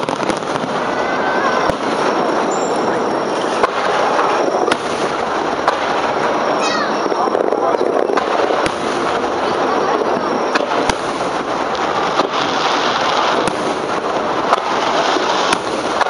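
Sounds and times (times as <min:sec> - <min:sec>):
continuous dense noise: 0:00.0 - 0:16.0
firework shells bursting: 0:00.0 - 0:16.0.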